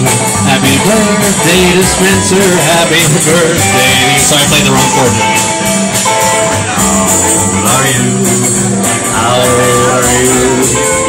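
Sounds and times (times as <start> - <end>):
live band with guitar: 0.0 - 11.0.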